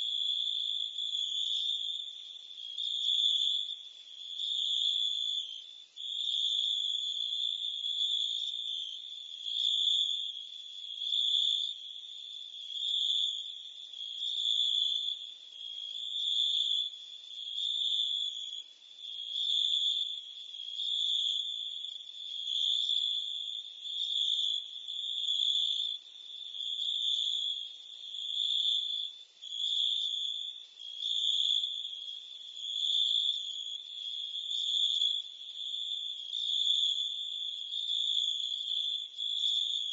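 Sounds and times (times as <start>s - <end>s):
crickets and cicadas chirring: 0.0s - 39.9s.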